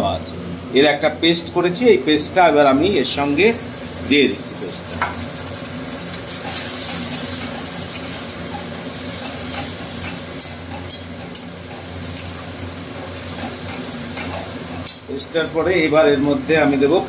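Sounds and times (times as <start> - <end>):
onions sizzling in hot oil: 2.7 - 17.0.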